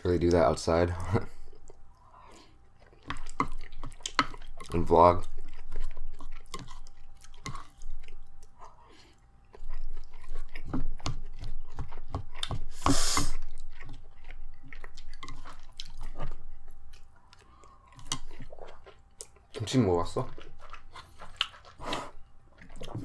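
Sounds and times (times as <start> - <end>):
chewing and mouth sounds: 0.2 - 23.0.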